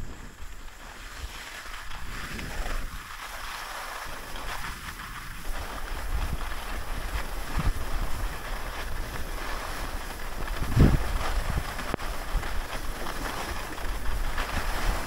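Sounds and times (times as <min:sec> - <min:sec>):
skis sliding over snow: 0:00.0 - 0:15.0
wind rumbling on microphone: 0:00.0 - 0:15.0.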